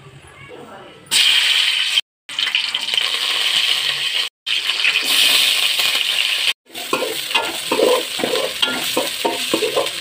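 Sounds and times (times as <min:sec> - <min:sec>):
spices sizzling in hot oil: 0:01.1 - 0:10.0.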